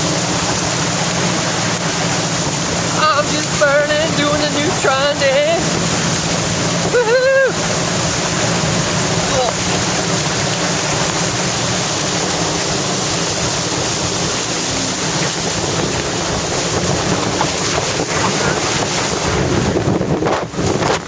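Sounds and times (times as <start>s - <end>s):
churning water and spray: 0.0s - 21.0s
wind buffeting microphone: 0.0s - 21.0s.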